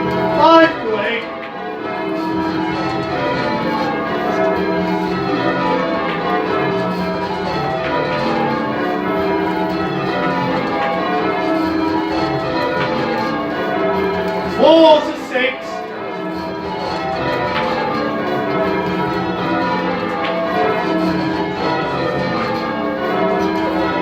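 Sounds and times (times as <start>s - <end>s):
church bells change ringing: 0.0s - 24.0s.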